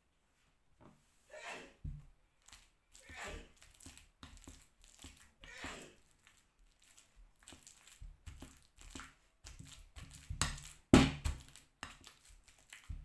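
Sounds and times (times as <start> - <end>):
potato masher mashing bananas: 2.4 - 13.0.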